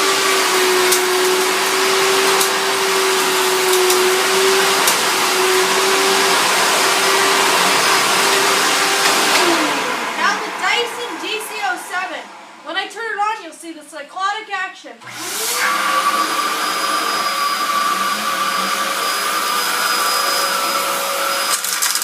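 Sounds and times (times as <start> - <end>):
vacuum cleaner running: 0.0 - 12.7, 15.0 - 22.0.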